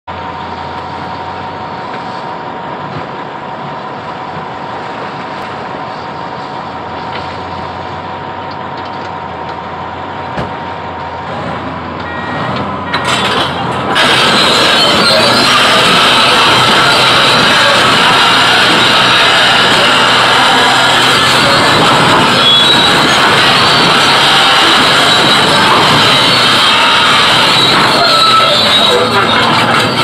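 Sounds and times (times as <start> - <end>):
bulldozer diesel engine running: 0.1 - 30.0
high whine: 0.1 - 30.0
clatter of moving bulldozer: 4.2 - 30.0.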